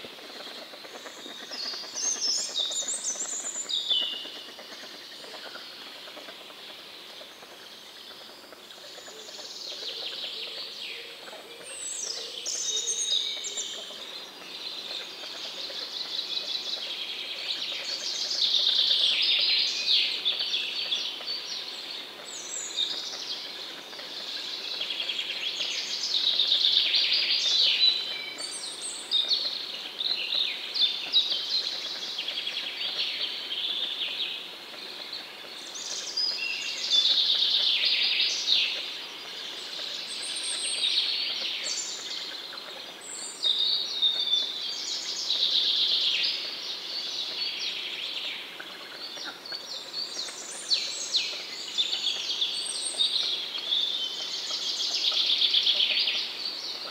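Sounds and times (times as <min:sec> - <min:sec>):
faint outdoor hiss: 0:00.0 - 0:56.9
songbirds singing with trills: 0:00.0 - 0:56.9.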